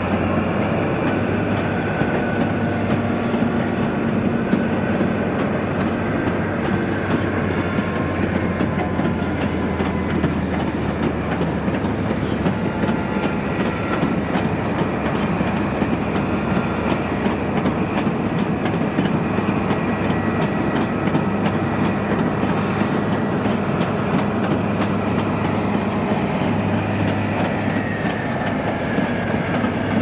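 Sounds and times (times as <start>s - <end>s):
train rumbling on track: 0.0s - 30.0s
wheels clicking over rail joints: 0.0s - 30.0s.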